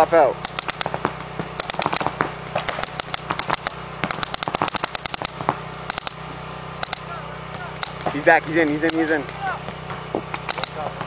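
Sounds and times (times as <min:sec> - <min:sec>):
paintball markers firing: 0:00.4 - 0:06.2, 0:06.8 - 0:11.0.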